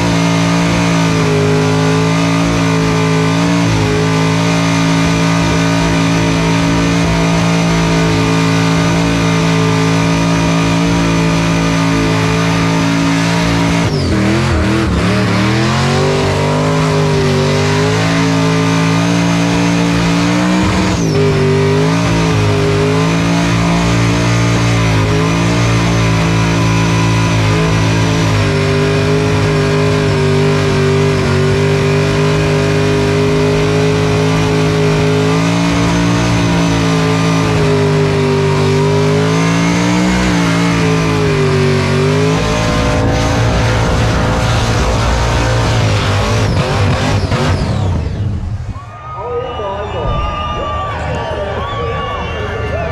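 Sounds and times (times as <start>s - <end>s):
car engine revving in burnout: 0.0s - 48.9s.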